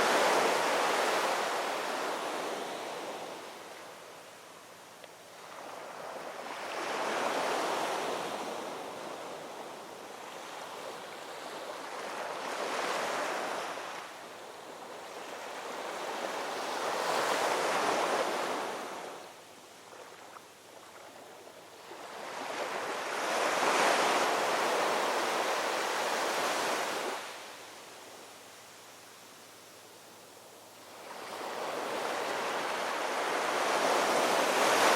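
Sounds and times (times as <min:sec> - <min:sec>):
ocean waves breaking on shore: 0:00.0 - 0:04.1, 0:05.3 - 0:28.3, 0:30.8 - 0:34.9.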